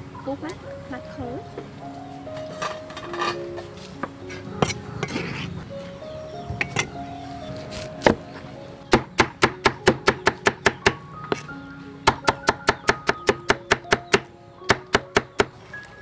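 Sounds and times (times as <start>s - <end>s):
light background music: 0.0s - 16.0s.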